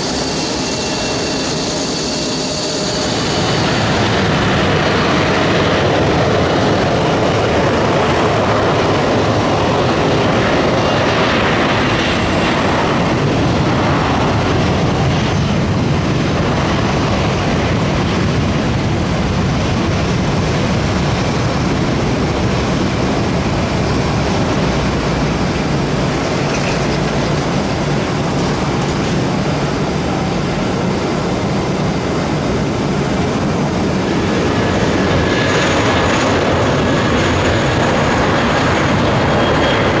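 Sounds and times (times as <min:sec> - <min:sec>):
jet engines running: 0:00.0 - 0:40.0.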